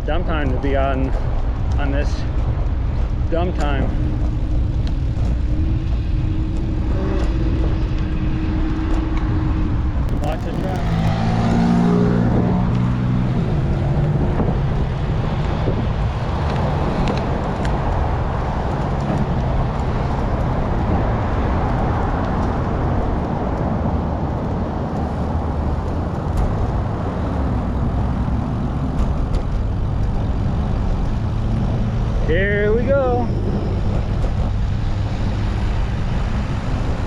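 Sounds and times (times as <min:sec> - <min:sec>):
vehicle engine hum: 0:00.0 - 0:37.0
road traffic passing: 0:01.2 - 0:37.0.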